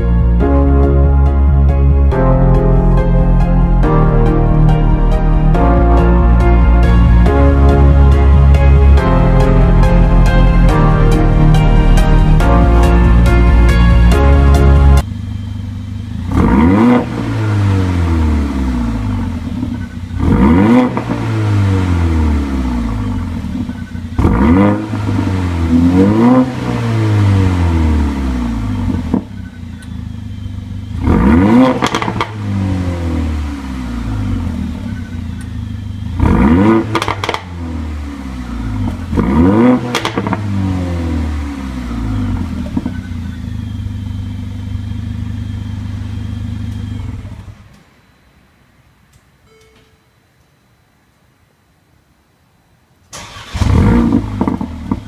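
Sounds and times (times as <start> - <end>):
car engine revving: 0.0 - 47.8, 53.2 - 55.0.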